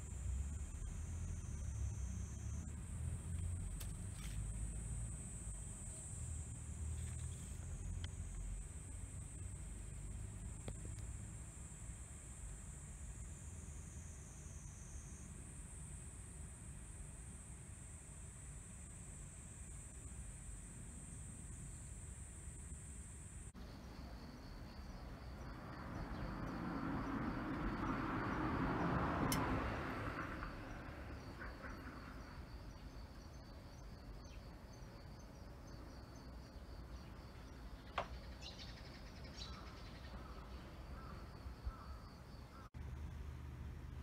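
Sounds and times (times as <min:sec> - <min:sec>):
high-pitched insect trill: 0:00.0 - 0:16.5, 0:17.7 - 0:42.7.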